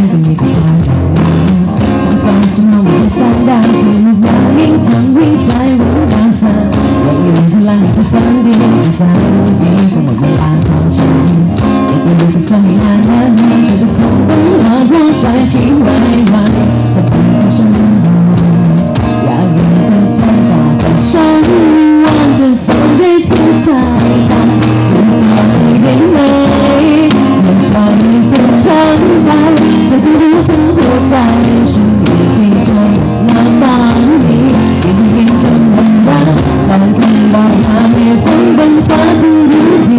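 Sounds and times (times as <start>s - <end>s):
live band music with singer: 0.0s - 39.9s.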